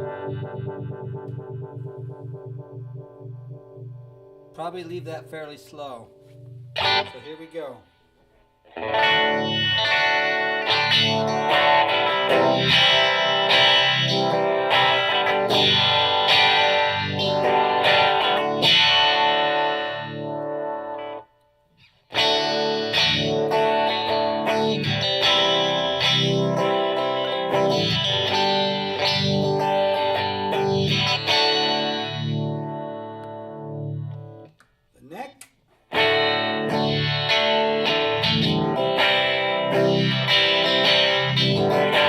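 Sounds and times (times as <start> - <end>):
clean electric guitar with vibe effect: 0.0 - 34.7, 35.8 - 42.0.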